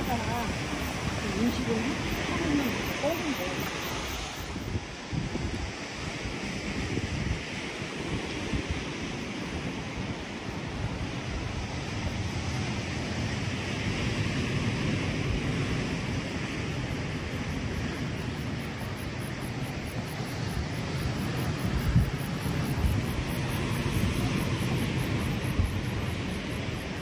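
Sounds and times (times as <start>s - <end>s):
ocean surf hiss: 0.0s - 27.0s
wind buffeting microphone: 0.0s - 27.0s.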